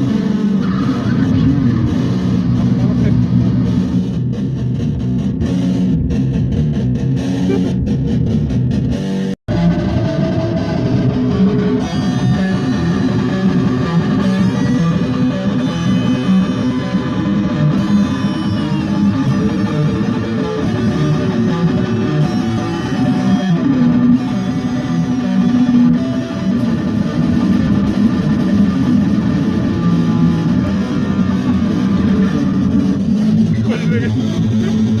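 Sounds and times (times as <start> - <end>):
bass guitar: 0.0 - 35.0
electric guitar: 0.0 - 35.0.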